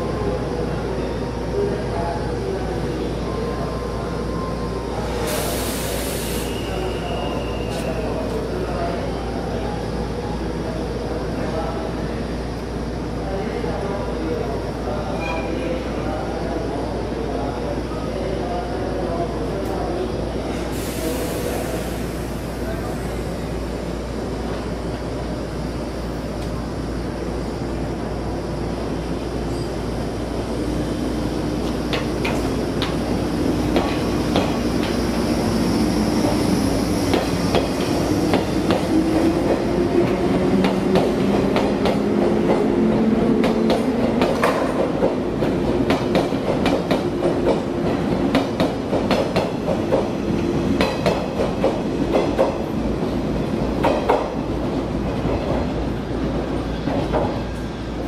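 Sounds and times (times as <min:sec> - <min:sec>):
low train running hum: 0:00.0 - 0:58.0.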